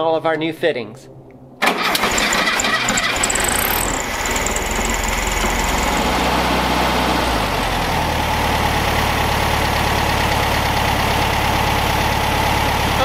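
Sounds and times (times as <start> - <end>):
car engine idling: 1.6 - 13.0.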